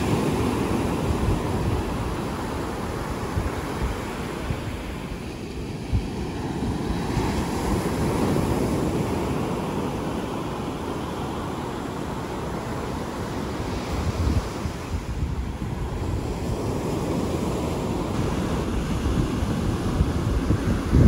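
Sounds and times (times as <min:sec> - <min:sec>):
surf breaking on a beach: 0:00.0 - 0:21.0
wind buffeting the microphone: 0:00.0 - 0:21.0.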